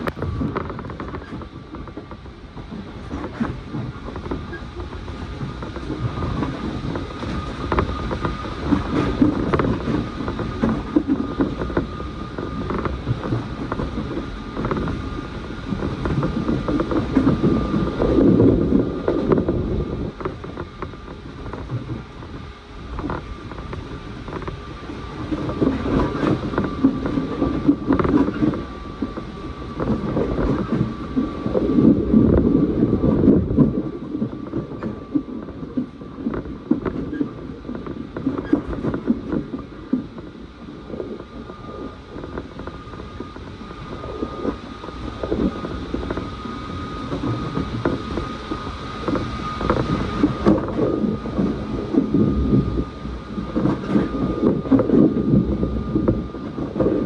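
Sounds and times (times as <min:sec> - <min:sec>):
faint high whine: 0:00.0 - 0:57.0
train wheels rumbling on rails: 0:00.0 - 0:57.0.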